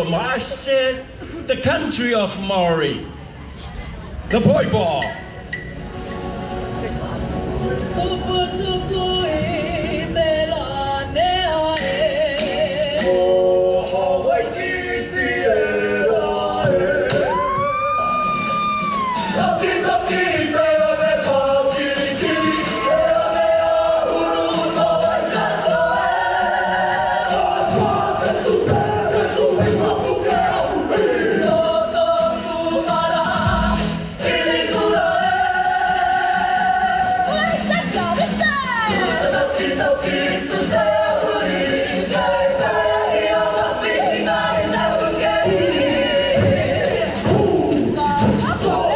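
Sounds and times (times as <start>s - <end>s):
group singing in harmony: 7.8s - 48.9s.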